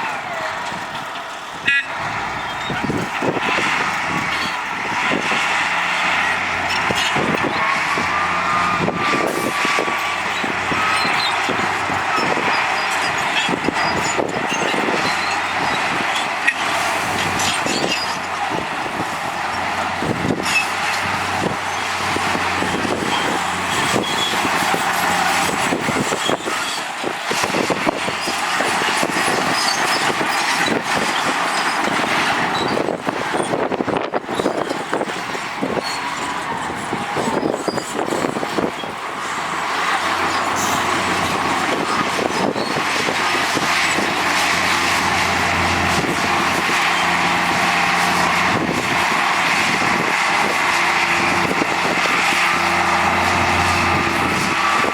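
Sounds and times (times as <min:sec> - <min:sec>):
diesel engine running: 0:00.0 - 0:54.9
machinery rattles and clanks: 0:00.0 - 0:54.9.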